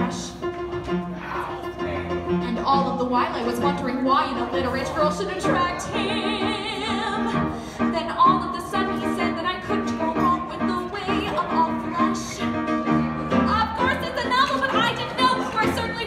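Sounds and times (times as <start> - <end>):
piano chords: 0.0 - 16.0
woman singing into a microphone: 2.4 - 12.6, 13.3 - 16.0.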